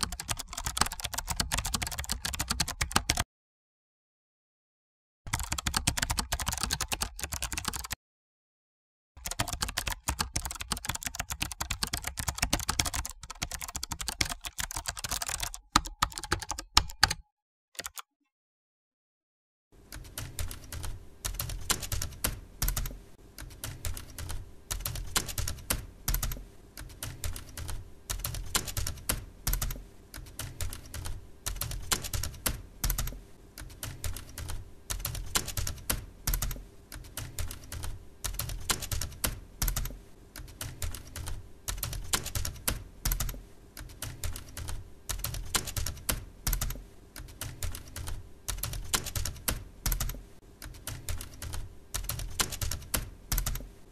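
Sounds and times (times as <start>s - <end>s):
keyboard typing: 0.0s - 3.3s, 5.3s - 8.0s, 9.2s - 18.1s, 19.8s - 53.8s.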